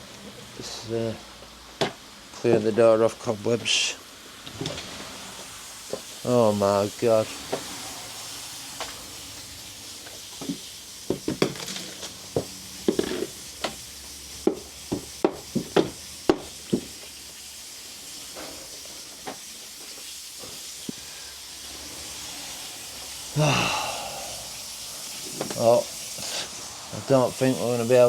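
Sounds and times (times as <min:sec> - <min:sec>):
water hissing from leaking pipe: 0:00.0 - 0:28.0.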